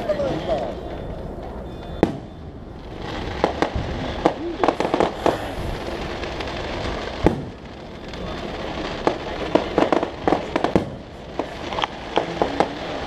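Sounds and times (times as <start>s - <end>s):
fireworks cracking and popping: 0.0s - 13.0s
firework deep boom: 0.6s - 13.0s.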